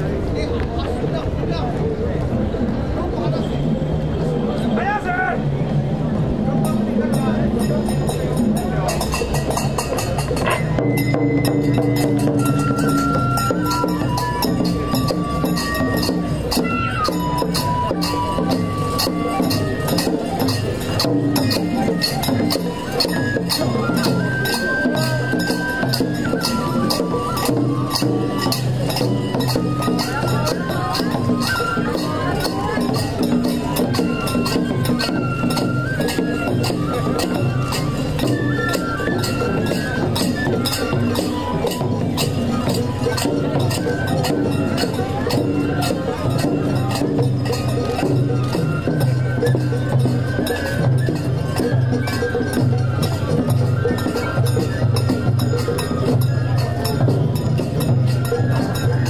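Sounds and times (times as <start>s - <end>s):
metallic percussion clinking: 6.5s - 59.0s
high flute melody: 6.6s - 59.0s
metal hand cymbals: 6.6s - 59.0s
held pipe tones: 7.2s - 59.0s.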